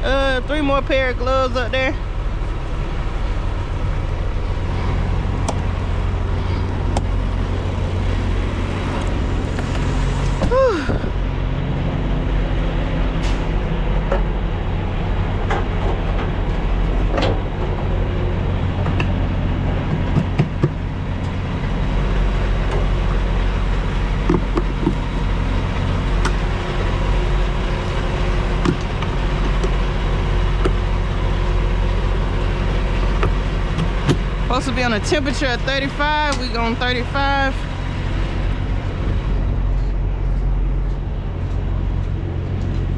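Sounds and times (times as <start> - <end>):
diesel truck engine running: 0.0 - 42.9.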